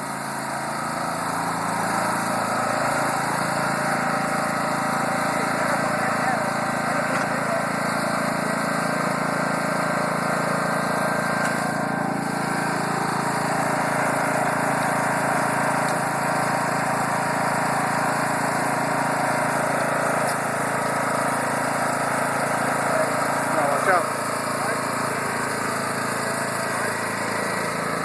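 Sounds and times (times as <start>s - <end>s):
small tractor engine running: 0.0s - 28.0s.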